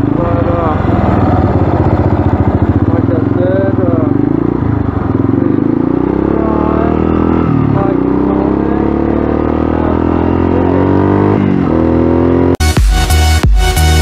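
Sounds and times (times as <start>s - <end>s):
dirt bike engine revving: 0.0s - 12.6s.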